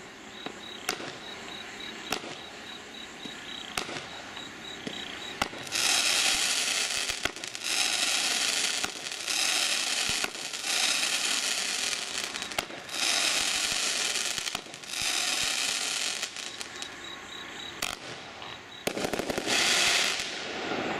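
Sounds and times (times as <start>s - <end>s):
firework crackling bursts: 0.0s - 17.0s, 17.7s - 20.9s.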